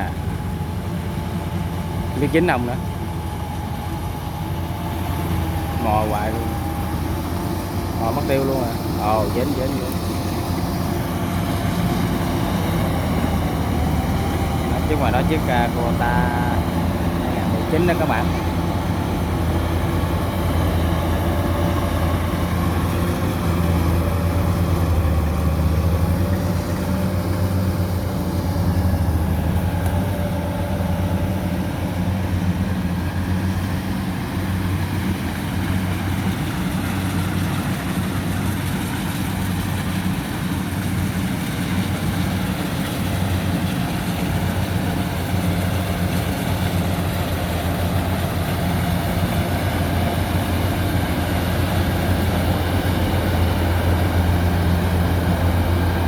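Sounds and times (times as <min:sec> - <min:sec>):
combine harvester diesel drone: 0:00.0 - 0:56.0
machinery noise: 0:01.8 - 0:56.0.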